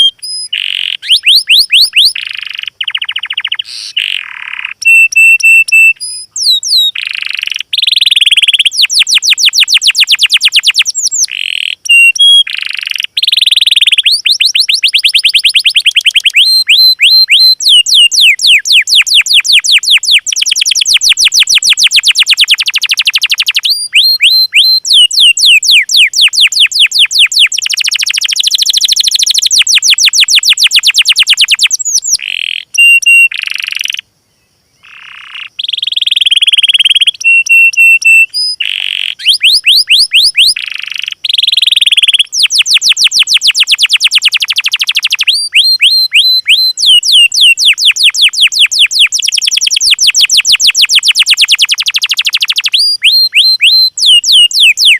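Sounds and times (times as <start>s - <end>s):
high bird whistles: 0.0s - 34.0s, 34.8s - 54.9s
songbirds trilling: 0.0s - 54.9s.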